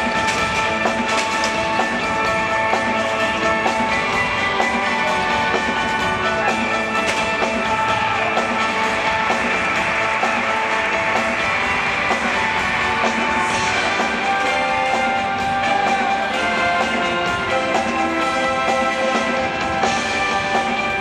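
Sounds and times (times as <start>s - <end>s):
loud rock music: 0.0s - 21.0s.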